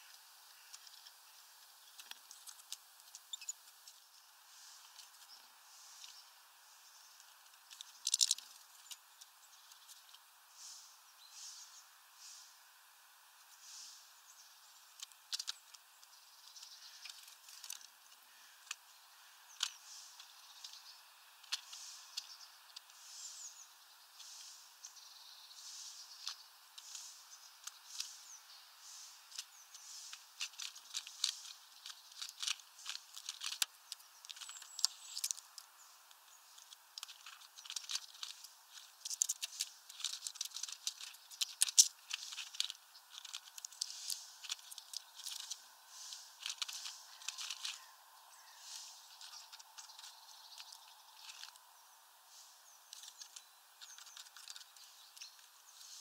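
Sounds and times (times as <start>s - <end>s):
soft high-pitched rustling: 0.0s - 56.0s.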